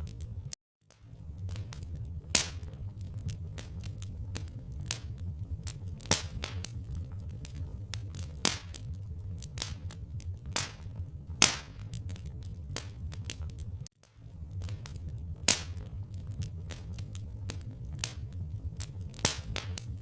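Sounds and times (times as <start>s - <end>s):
low rumble: 0.0s - 20.0s
wood fire crackling: 0.0s - 20.0s.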